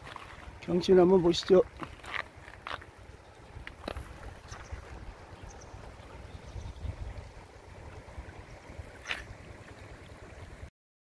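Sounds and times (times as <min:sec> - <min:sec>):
faint water wash: 0:00.0 - 0:10.7
wind rumbling on microphone: 0:00.0 - 0:10.7.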